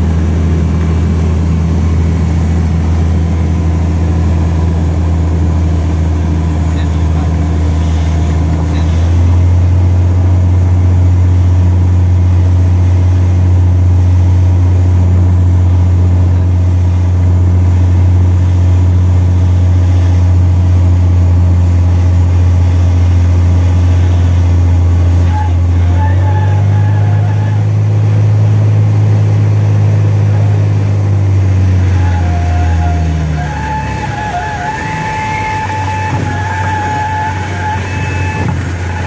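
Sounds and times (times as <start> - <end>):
airplane engine and propeller droning: 0.0 - 39.0.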